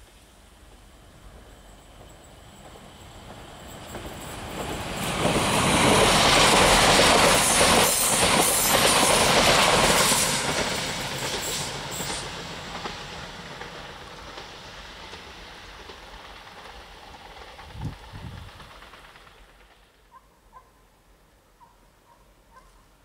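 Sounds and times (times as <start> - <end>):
electric train passing: 0.0 - 21.4.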